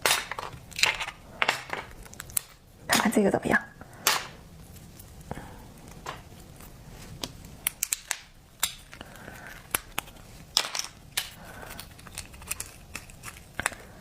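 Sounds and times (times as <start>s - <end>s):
crab shell cracking and crunching: 0.0s - 2.8s, 3.8s - 14.0s.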